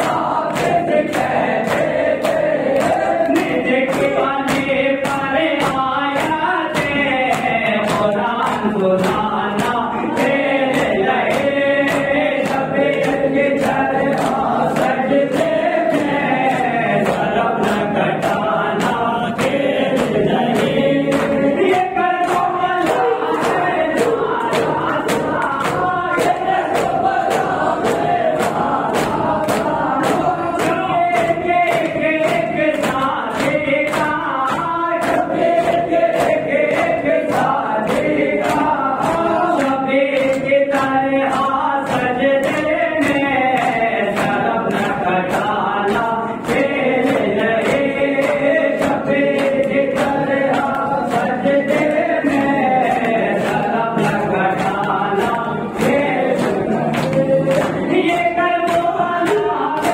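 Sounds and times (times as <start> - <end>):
group chanting in unison: 0.0 - 59.9.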